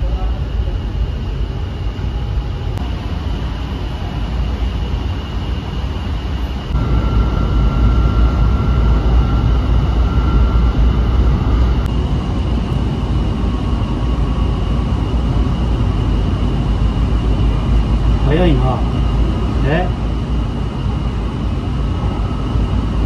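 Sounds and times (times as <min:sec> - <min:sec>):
train car rumble with whine: 0:00.0 - 0:23.0.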